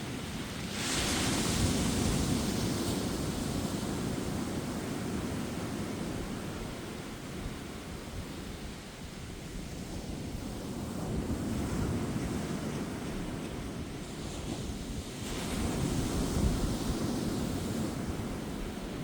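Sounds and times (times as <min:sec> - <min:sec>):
low rumble of surf: 0:00.0 - 0:19.0.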